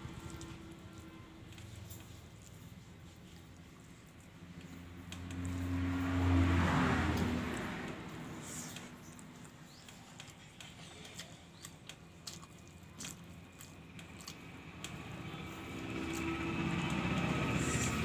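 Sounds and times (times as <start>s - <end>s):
chewing: 0.0s - 18.0s
fingers squishing rice: 0.0s - 18.0s
passing vehicle engine hum: 0.0s - 18.0s.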